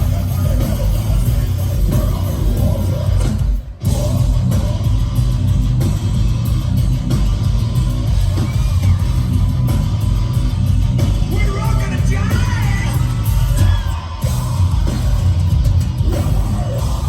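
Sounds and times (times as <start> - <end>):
distorted electric guitars: 0.0 - 17.0
drum kit: 0.0 - 17.0.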